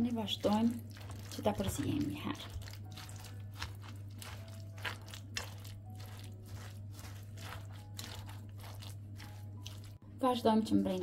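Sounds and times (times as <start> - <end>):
fork stirring in a glass bowl: 0.3 - 10.0.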